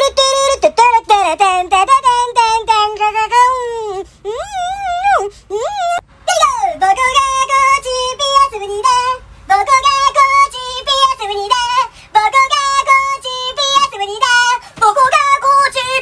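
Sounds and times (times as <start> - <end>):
high child-like singing voice: 0.0 - 16.0.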